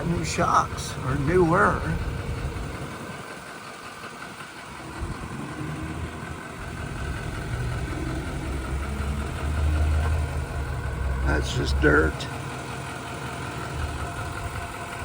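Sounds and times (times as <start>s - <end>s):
pickup diesel engine idling: 0.0s - 15.0s.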